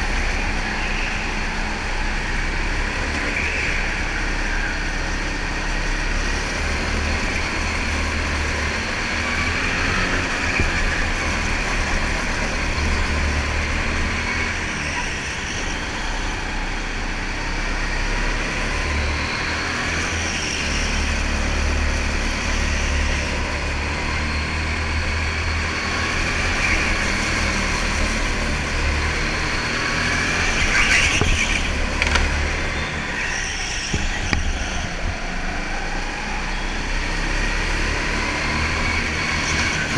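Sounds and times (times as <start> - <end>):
go-kart motor running: 0.0 - 39.9.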